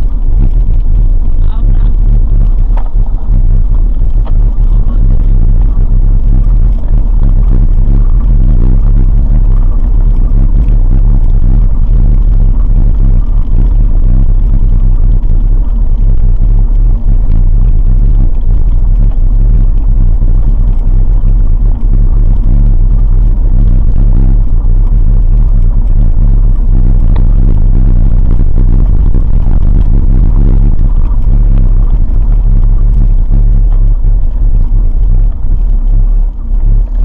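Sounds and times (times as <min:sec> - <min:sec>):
low engine drone: 0:00.0 - 0:37.0.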